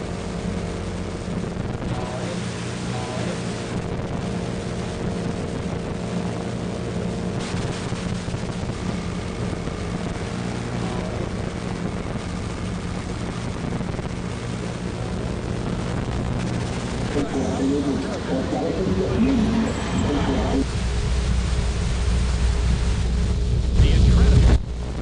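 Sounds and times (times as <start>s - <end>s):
low hum tones: 0.0s - 25.0s
rumbling hiss: 0.4s - 25.0s.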